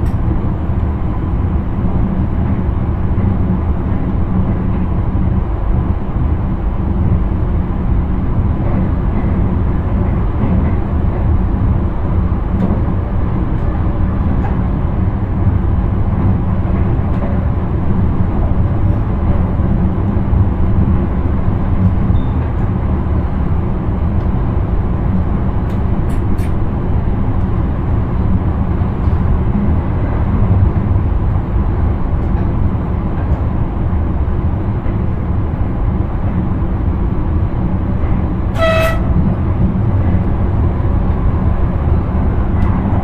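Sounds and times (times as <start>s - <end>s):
train wheels and motors rumbling: 0.0s - 43.0s.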